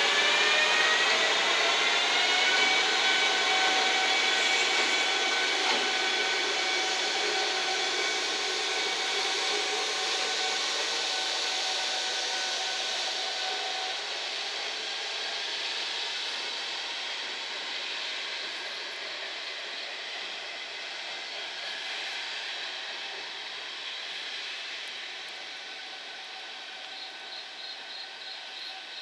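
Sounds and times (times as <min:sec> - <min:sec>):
cooling blowers rushing: 0:00.0 - 0:27.3
rising electric whine: 0:00.0 - 0:28.4
electric locomotive pulling away: 0:00.0 - 0:29.0.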